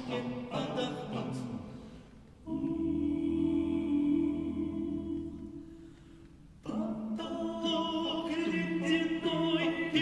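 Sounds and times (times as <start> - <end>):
male choir singing: 0.0 - 1.9, 2.5 - 5.6, 6.6 - 10.0.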